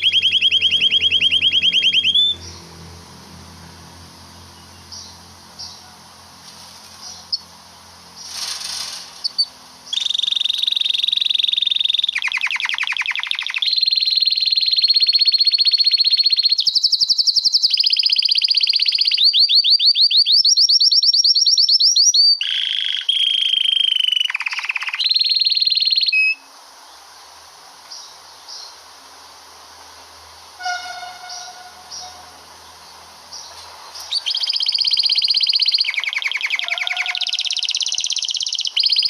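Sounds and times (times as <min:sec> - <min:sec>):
canary singing trills: 0:00.0 - 0:03.0, 0:04.4 - 0:06.0, 0:07.0 - 0:07.5, 0:08.1 - 0:26.5, 0:30.6 - 0:39.0.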